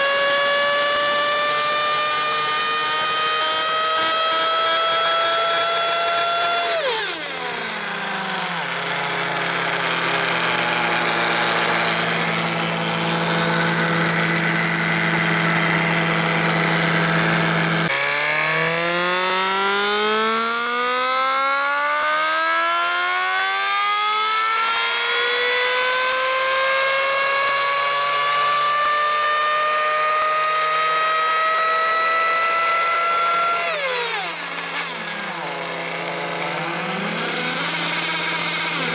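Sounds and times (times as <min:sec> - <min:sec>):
model engine revving and idling: 0:00.0 - 0:38.9.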